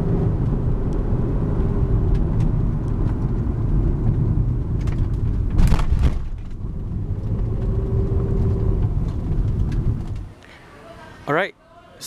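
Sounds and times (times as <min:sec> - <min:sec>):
car engine and road rumble: 0:00.0 - 0:11.4.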